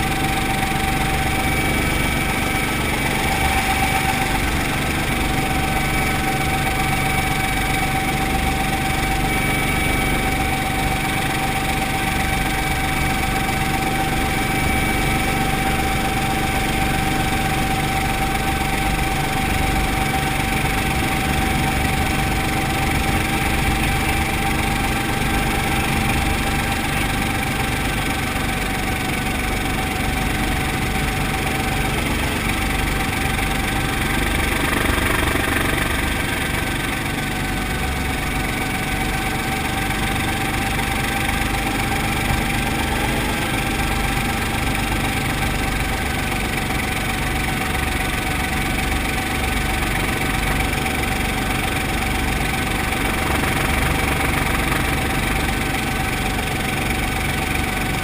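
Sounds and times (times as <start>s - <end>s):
constant whine: 0.0s - 58.0s
helicopter engine and rotor: 0.0s - 58.0s.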